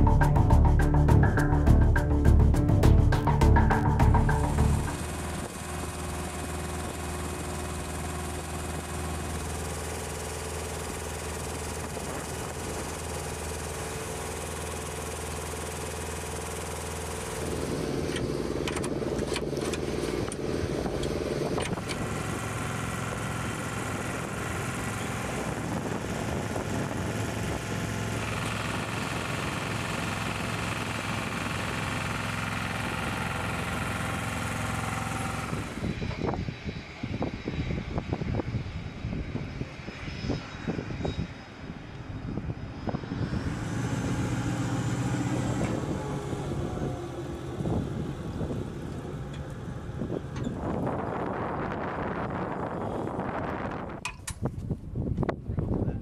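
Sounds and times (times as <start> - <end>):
jet and machinery engine noise: 0.0 - 56.0.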